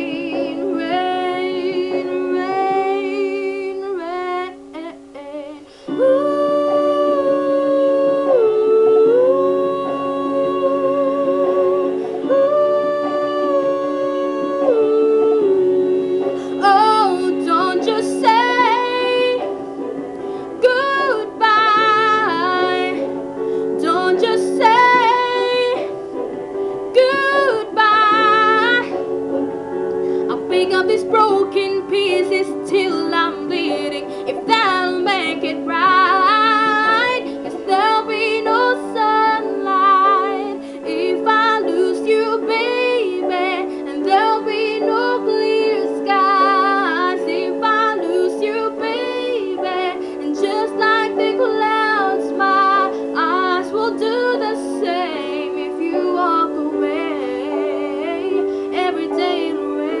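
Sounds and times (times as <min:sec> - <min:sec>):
sustained backing chords: 0:00.0 - 1:00.0.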